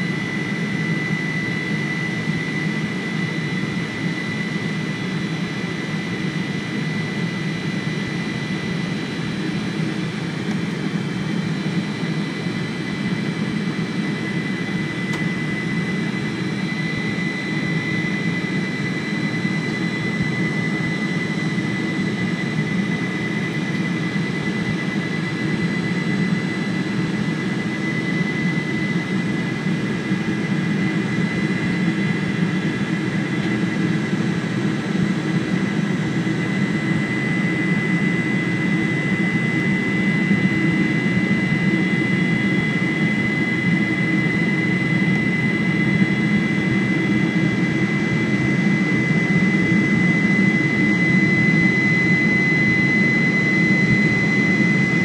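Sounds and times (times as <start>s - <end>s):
high engine whine: 0.0s - 55.0s
jet engines droning: 0.0s - 55.0s.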